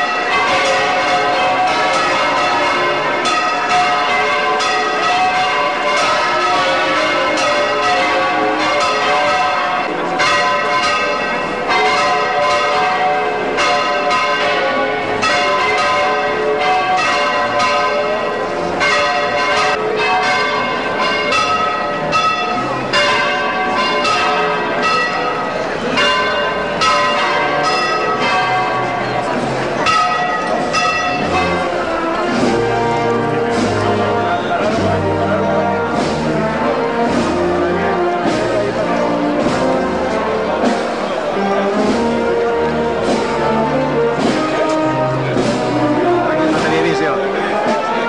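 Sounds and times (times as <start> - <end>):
church bells pealing: 0.0 - 48.0.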